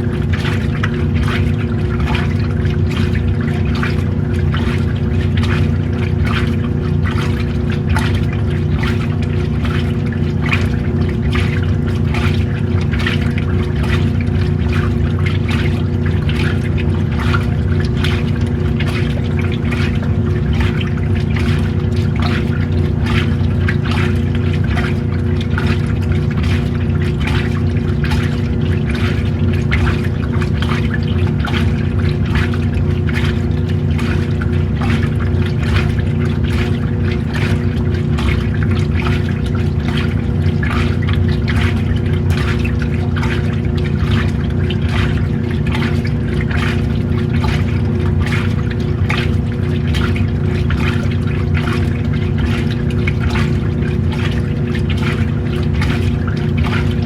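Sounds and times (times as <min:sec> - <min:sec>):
washing machine motor hum: 0:00.0 - 0:57.0
water sloshing in tub: 0:00.0 - 0:57.0.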